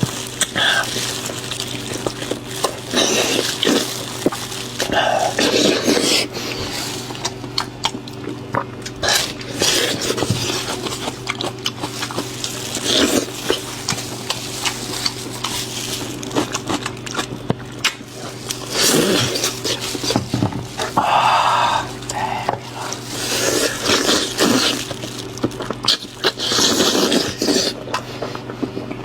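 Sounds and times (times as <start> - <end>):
chewing meat: 0.0 - 29.0
steady low hum: 0.0 - 29.0.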